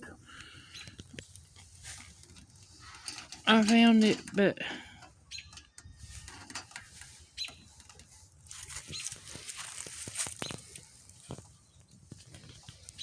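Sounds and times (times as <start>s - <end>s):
birds chirping: 0.0s - 1.2s, 3.0s - 13.0s
metal parts clicking and rustling: 0.9s - 11.5s.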